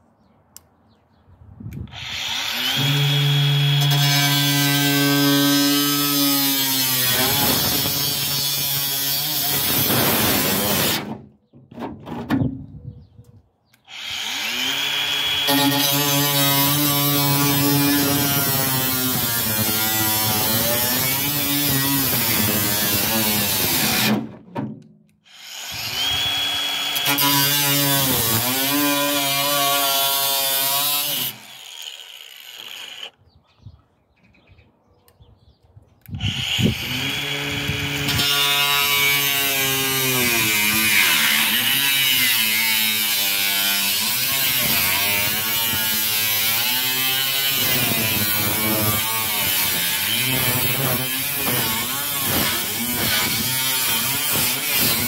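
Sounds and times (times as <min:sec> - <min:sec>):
angle grinder cutting metal: 0:01.9 - 0:11.1, 0:13.9 - 0:24.2, 0:25.2 - 0:33.2, 0:36.2 - 0:55.0.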